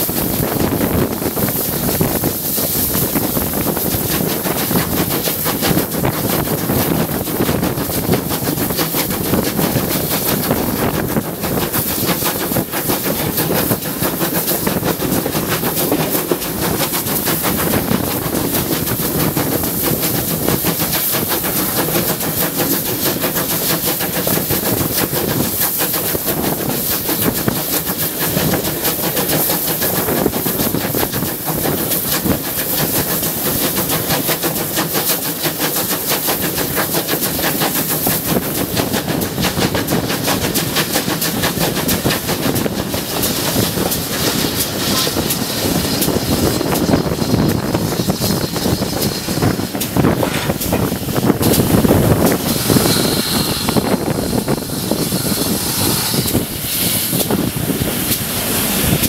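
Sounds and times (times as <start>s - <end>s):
steam locomotive chuffing: 0.0s - 59.0s
train wheels clattering on rails: 0.0s - 59.0s
wind buffeting microphone: 0.0s - 59.0s.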